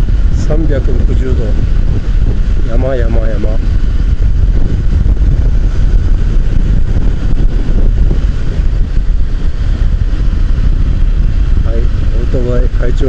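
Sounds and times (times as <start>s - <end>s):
motorcycle riding: 0.0s - 13.0s
wind noise on microphone: 0.0s - 13.0s.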